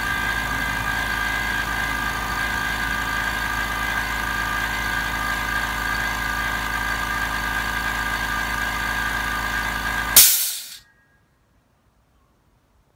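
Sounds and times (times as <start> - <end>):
air compressor humming and whining: 0.0 - 10.8.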